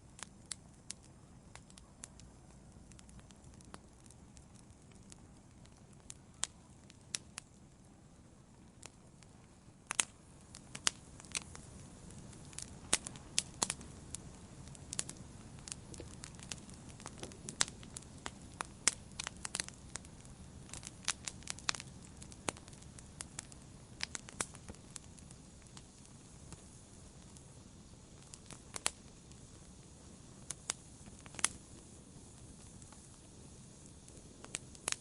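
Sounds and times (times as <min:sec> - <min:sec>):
hiss of flames: 0:00.0 - 0:35.0
wood crackling and popping: 0:00.0 - 0:35.0.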